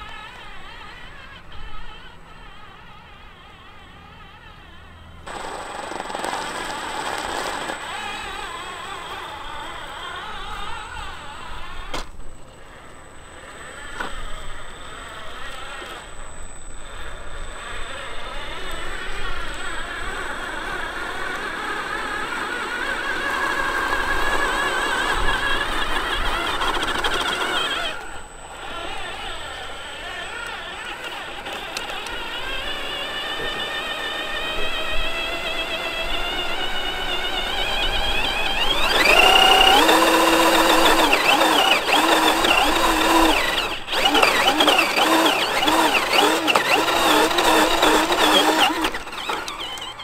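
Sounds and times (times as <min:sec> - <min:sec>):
toy truck electric motor whine: 0:00.0 - 0:50.0.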